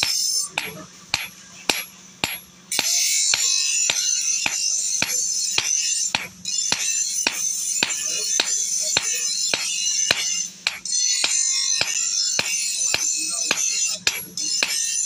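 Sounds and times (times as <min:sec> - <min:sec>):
hammer striking metal on anvil: 0:00.0 - 0:15.0
music: 0:01.7 - 0:15.0.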